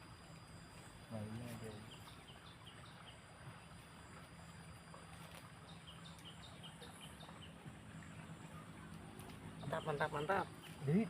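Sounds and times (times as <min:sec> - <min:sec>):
faint outdoor background hiss: 0:00.0 - 0:11.0.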